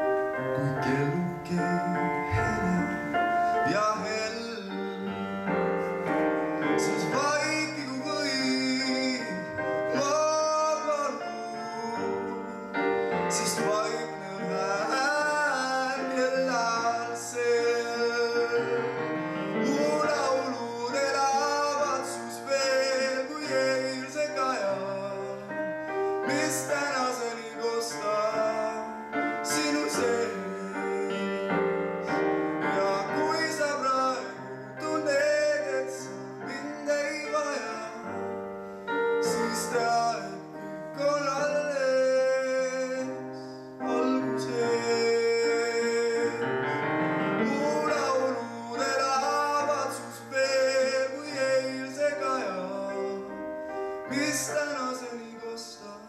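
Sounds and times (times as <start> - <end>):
piano accompaniment: 0.0 - 56.0
young man singing: 0.0 - 56.0.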